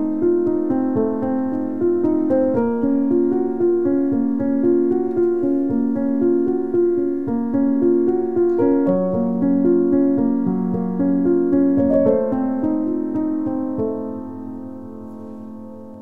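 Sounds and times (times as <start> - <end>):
piano music sustained notes: 0.0 - 16.0.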